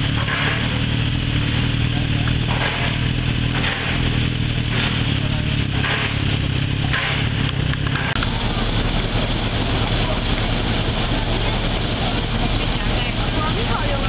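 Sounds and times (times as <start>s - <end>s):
engine hum: 0.0s - 14.0s
rough uneven engine rumble: 0.0s - 14.0s.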